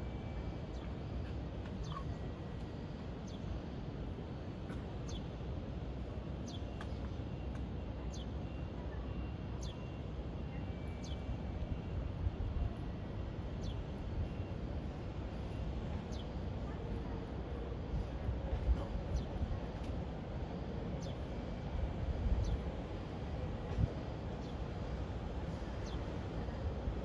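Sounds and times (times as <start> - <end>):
low city rumble: 0.0 - 27.0.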